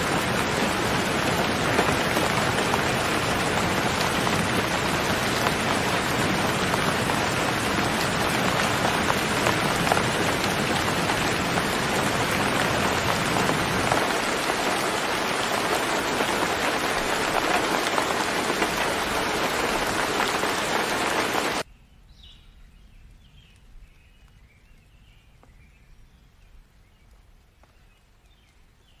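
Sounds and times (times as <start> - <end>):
steady rain hiss: 0.0 - 21.7, 22.5 - 29.0.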